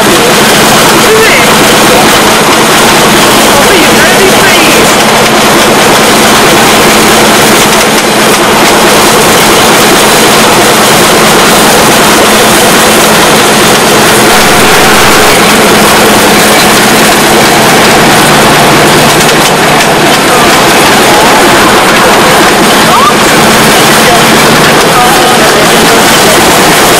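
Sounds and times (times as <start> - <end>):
wind and road noise roar: 0.0 - 26.9.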